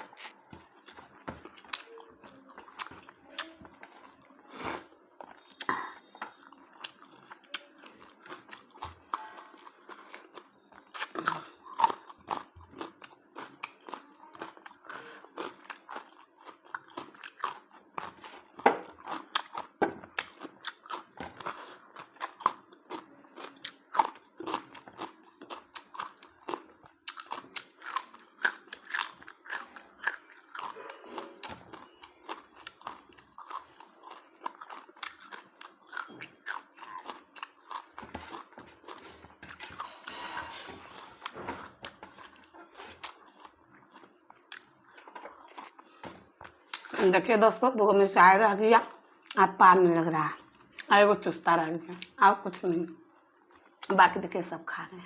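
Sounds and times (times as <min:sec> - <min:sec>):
person chewing and biting: 0:00.0 - 0:04.4, 0:05.2 - 0:47.0.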